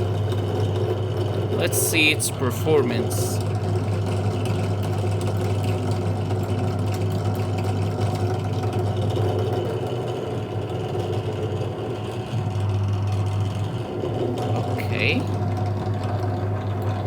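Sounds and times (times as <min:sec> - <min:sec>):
drill press motor hum: 0:00.0 - 0:17.0.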